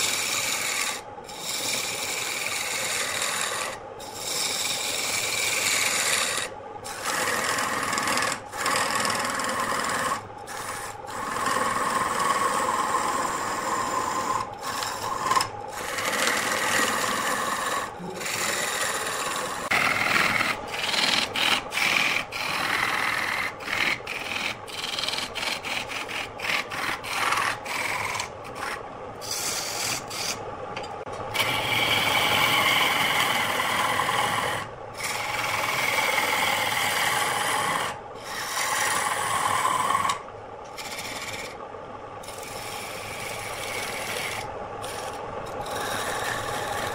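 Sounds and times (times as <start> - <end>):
lathe tool scraping wood: 0.0 - 30.4, 31.2 - 41.6, 42.2 - 46.9.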